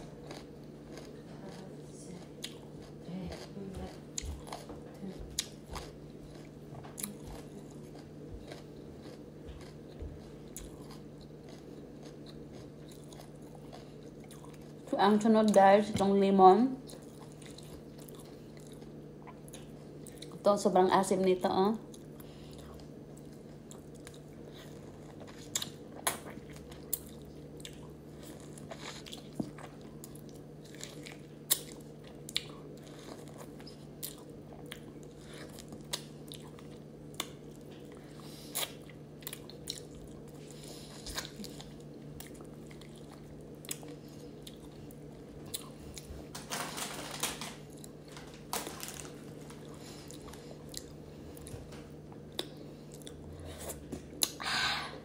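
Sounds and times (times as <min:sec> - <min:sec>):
person chewing lemon: 0:00.0 - 0:14.9, 0:16.8 - 0:20.4, 0:21.9 - 0:46.3, 0:47.6 - 0:54.4.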